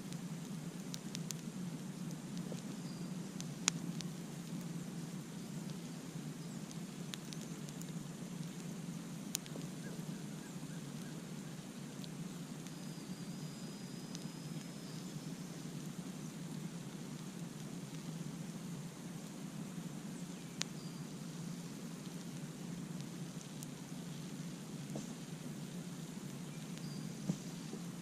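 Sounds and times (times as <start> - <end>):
campfire crackling and popping: 0.0 - 28.0
low rumble of fire: 0.0 - 28.0.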